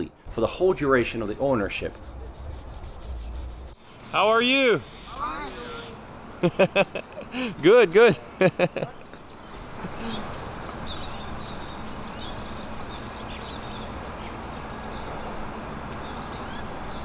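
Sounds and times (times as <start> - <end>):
low outdoor background hum: 0.0 - 17.0
birds chirping: 0.6 - 17.0.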